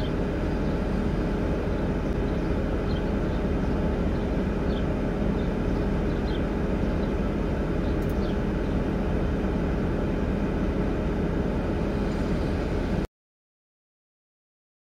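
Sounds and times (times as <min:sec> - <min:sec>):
vehicle engine idling: 0:00.0 - 0:13.1.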